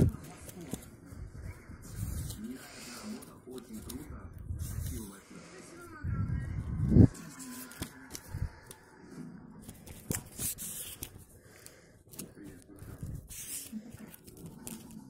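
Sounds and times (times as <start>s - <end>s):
paper rustling and crinkling: 0.0s - 5.2s, 6.9s - 8.8s, 9.6s - 15.0s.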